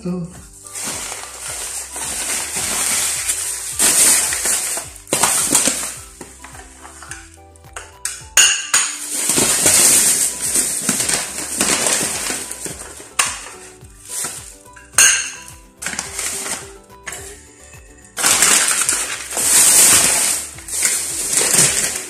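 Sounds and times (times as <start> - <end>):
plastic bags crinkling: 0.5 - 7.4, 8.9 - 17.4, 18.1 - 22.0.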